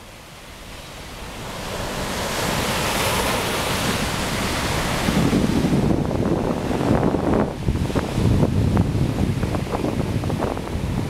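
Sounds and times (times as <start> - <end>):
ocean surf breaking: 0.0 - 11.0
wind buffeting microphone: 0.7 - 11.0.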